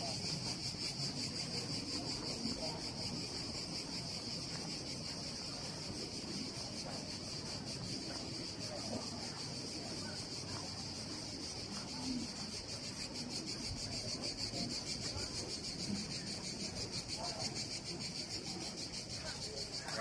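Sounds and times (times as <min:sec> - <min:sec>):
cicadas buzzing: 0:00.0 - 0:20.0
murmur of people talking: 0:00.0 - 0:20.0.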